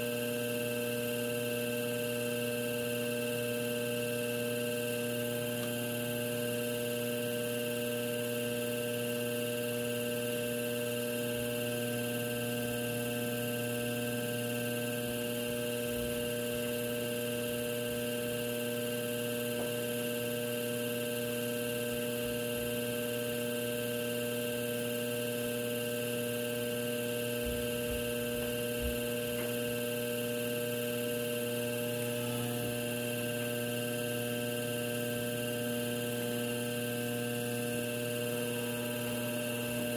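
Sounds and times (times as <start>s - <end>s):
potter's wheel motor humming: 0.0s - 39.9s.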